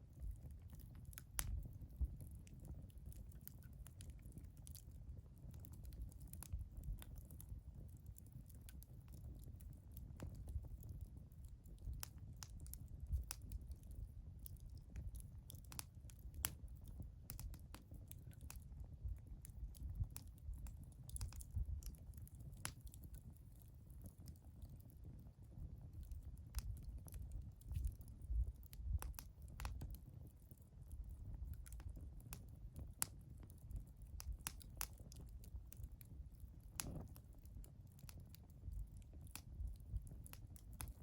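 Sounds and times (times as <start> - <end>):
low rumble of fire: 0.0 - 41.0
wood fire crackling and popping: 0.0 - 41.0.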